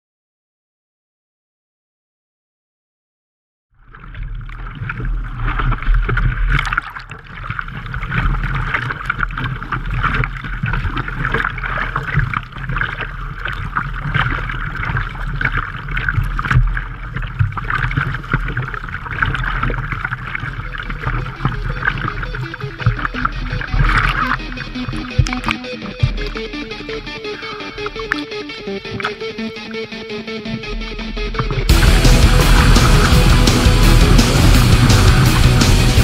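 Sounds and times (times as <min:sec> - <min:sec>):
water sloshing and splashing: 0:03.8 - 0:36.0.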